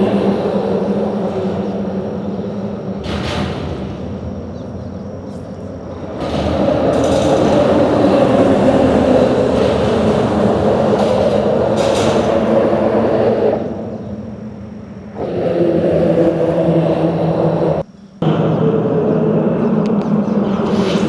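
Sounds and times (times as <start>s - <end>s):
traffic rumbling across a bridge: 0.0s - 21.0s.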